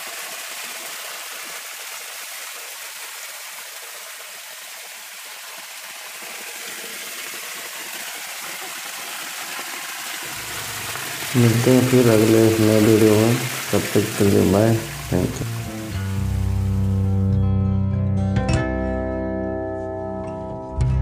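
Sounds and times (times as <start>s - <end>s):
small waterfall splashing over rocks: 0.0s - 17.1s.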